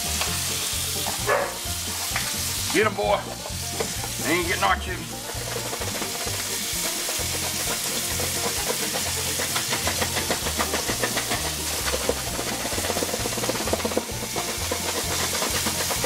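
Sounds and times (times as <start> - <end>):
chicken wings sizzling in oil: 0.0 - 16.0
upbeat background music: 0.0 - 16.0.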